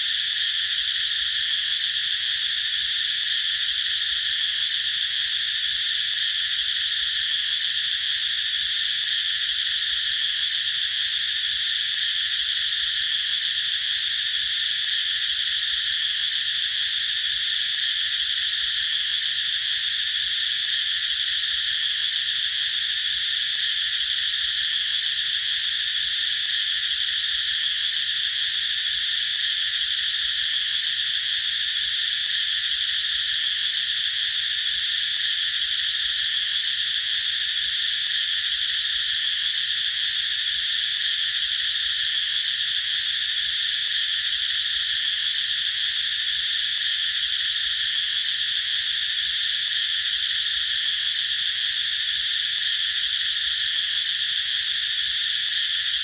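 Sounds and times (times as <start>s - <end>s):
cicadas singing: 0.0s - 56.0s.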